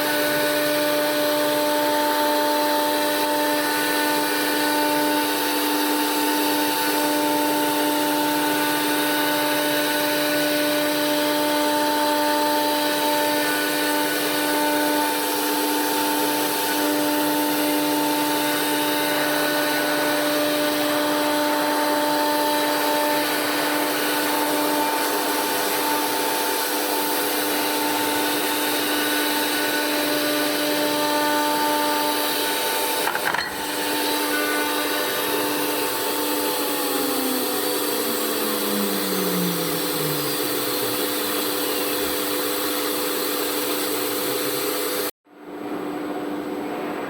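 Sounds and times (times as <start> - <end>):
motor winding down: 0.0 - 44.4
cnc router machinery humming: 0.0 - 45.2.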